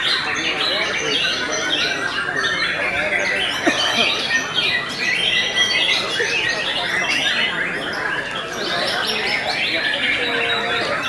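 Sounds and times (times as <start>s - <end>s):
birds singing in chorus: 0.0s - 11.0s.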